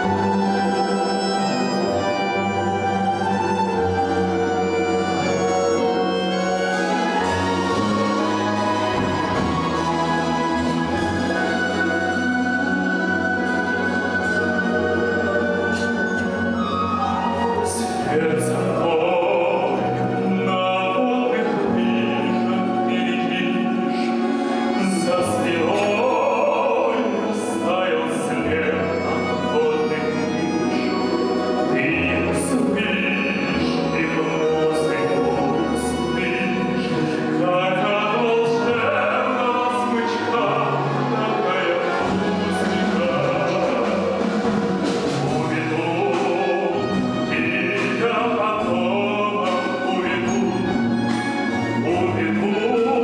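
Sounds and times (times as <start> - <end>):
orchestra playing: 0.0 - 53.0.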